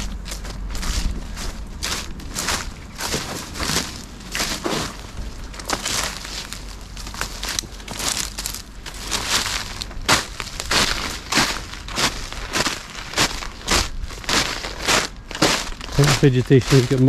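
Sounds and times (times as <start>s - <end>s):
footsteps crunching over debris: 0.0s - 17.0s.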